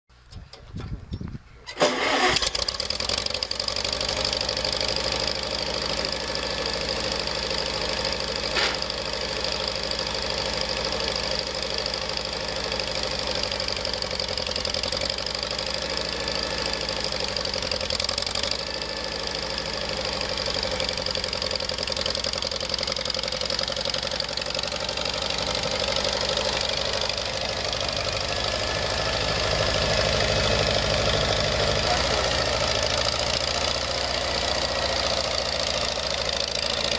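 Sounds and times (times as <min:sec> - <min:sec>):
tractor engine running: 0:00.1 - 0:36.9.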